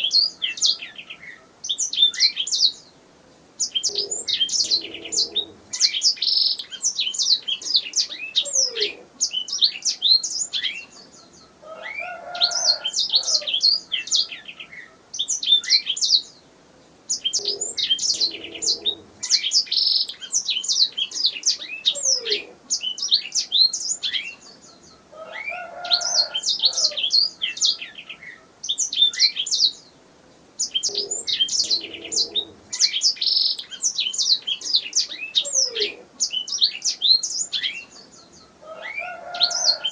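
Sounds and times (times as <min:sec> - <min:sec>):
canary singing: 0:00.0 - 0:02.9, 0:03.6 - 0:16.4, 0:17.1 - 0:30.0, 0:30.6 - 0:39.9.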